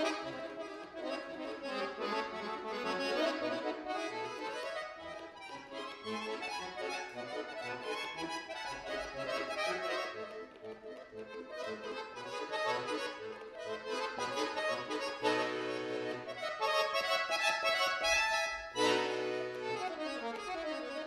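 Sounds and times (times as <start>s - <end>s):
button accordion playing: 0.0s - 21.0s.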